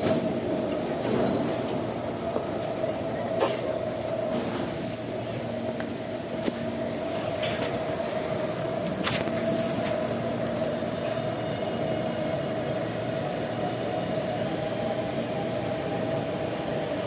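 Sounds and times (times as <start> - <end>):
constant whine: 0.0 - 17.0
metro train rumbling: 0.0 - 17.0.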